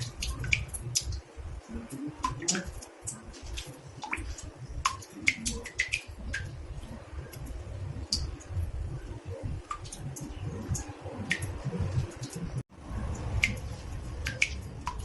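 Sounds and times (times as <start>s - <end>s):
water drops plinking in bathtub: 0.0s - 15.0s.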